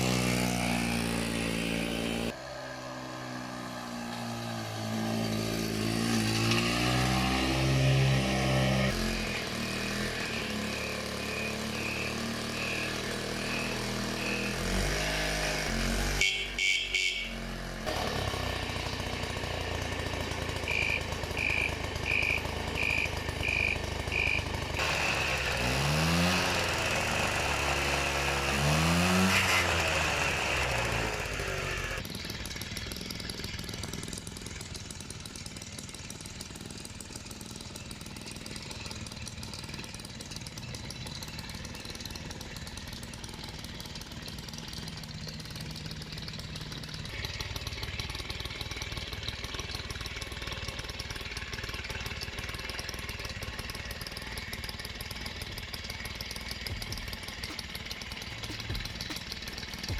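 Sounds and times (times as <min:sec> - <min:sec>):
two-stroke engine revving and idling: 0:00.0 - 0:59.9.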